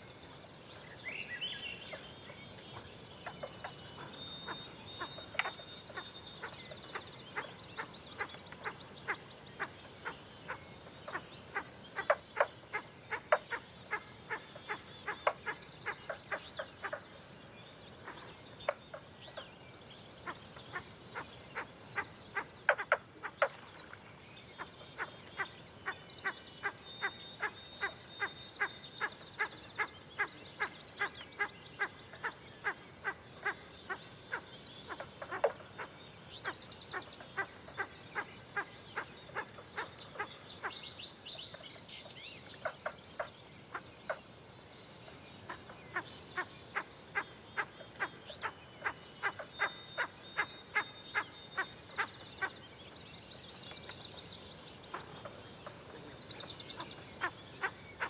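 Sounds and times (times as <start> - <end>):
songbirds trilling: 1.0 - 58.0.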